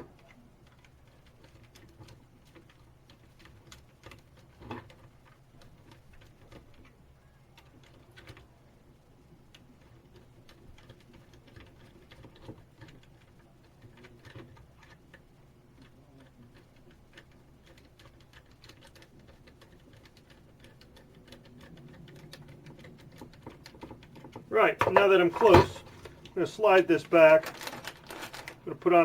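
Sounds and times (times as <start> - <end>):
small parts clicking and tapping: 0.0 - 29.0.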